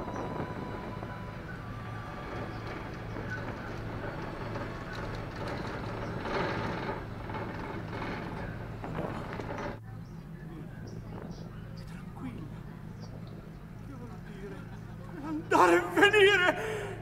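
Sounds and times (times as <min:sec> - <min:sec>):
noisy rush: 0:00.0 - 0:17.0
ship engines droning: 0:00.0 - 0:17.0.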